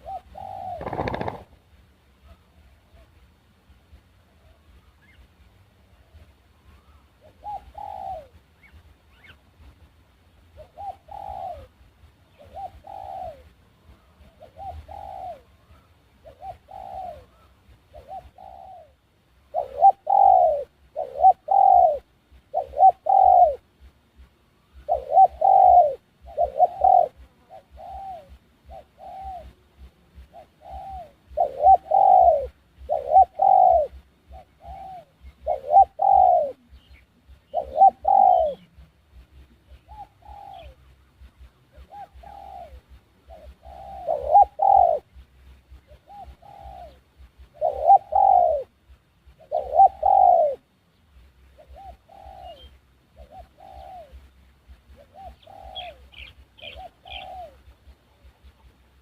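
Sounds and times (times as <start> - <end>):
dove cooing: 0.0 - 1.6, 6.0 - 9.4, 10.6 - 23.7, 24.7 - 50.7, 51.4 - 59.0.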